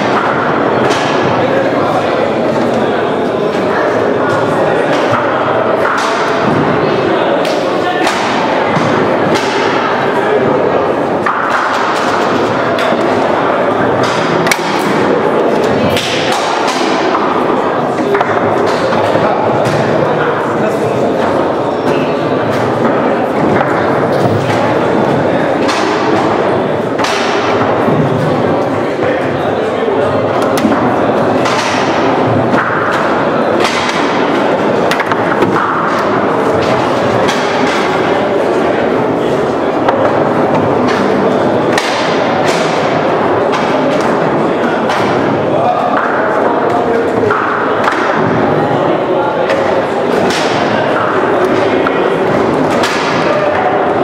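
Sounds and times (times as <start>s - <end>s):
foosball ball and players knocking: 0.0s - 54.0s
steady background noise: 0.0s - 54.0s.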